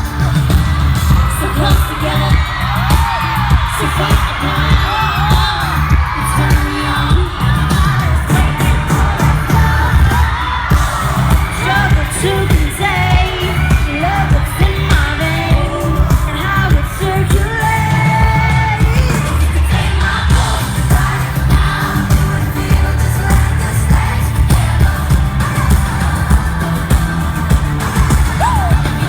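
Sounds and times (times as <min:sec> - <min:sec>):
amplified pop backing music: 0:00.0 - 0:29.0
female vocal group singing: 0:01.2 - 0:29.0.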